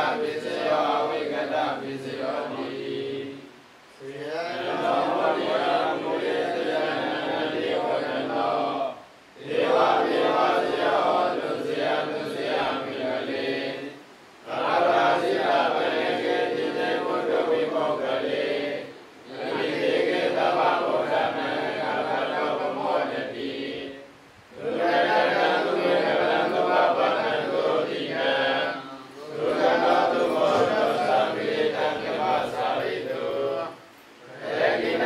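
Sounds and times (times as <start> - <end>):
group chanting in unison: 0.0 - 35.0.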